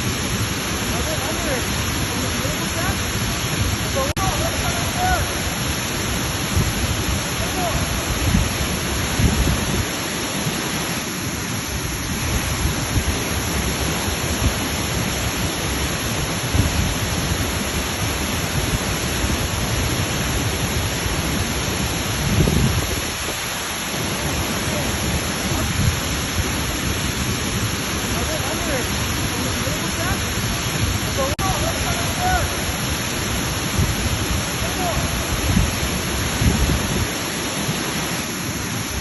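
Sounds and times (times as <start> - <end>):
waterfall roar: 0.0 - 39.0.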